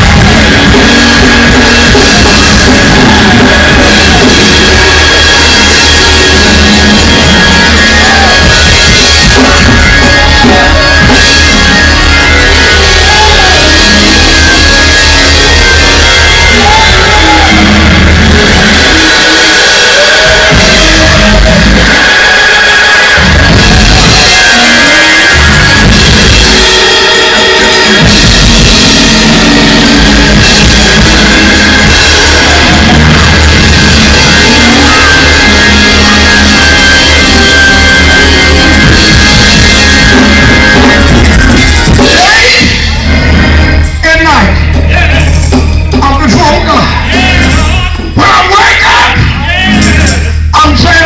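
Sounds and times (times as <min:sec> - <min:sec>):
driving drum beat: 0:00.0 - 0:51.0
live church band playing: 0:00.0 - 0:51.0.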